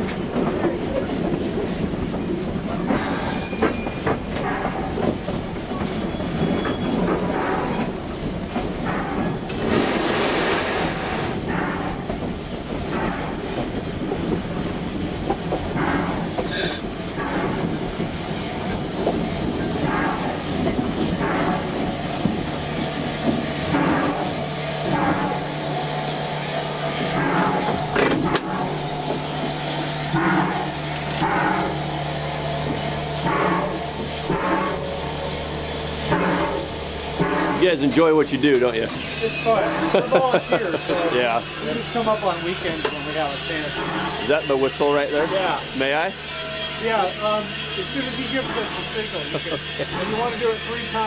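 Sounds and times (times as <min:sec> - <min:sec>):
running gear rumble and clatter: 0:00.0 - 0:51.0
steam hissing: 0:00.0 - 0:51.0.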